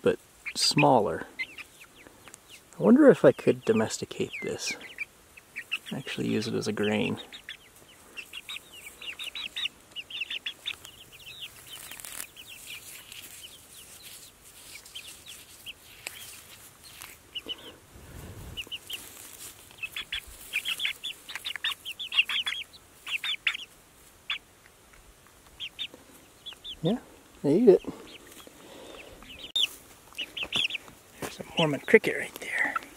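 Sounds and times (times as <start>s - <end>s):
chicks peeping: 0.0s - 32.9s.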